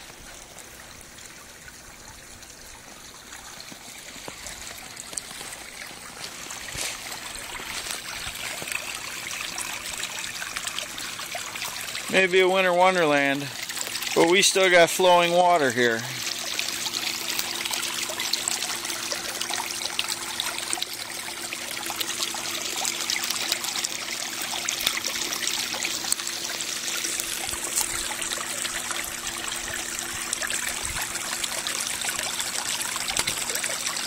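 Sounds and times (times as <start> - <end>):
water trickling in a stream: 0.0 - 34.0.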